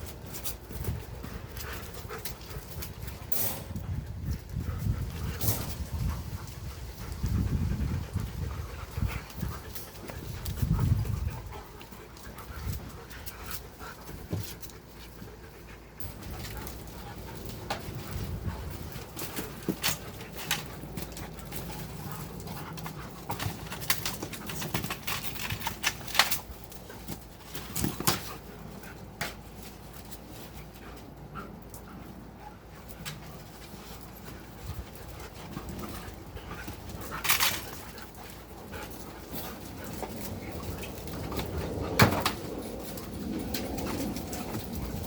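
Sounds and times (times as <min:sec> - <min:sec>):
dogs scuffling while playing: 0:00.0 - 0:45.0.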